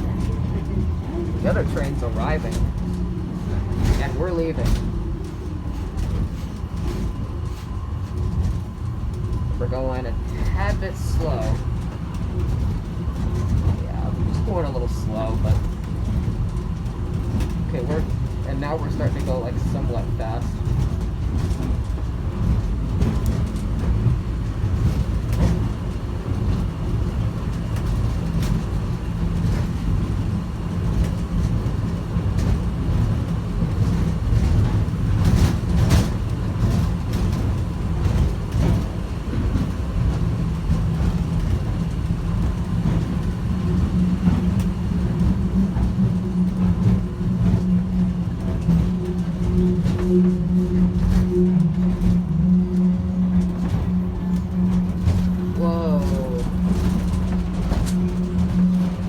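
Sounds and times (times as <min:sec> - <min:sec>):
steady low hum: 0:00.0 - 0:59.0
train rumbling on guideway: 0:00.0 - 0:59.0.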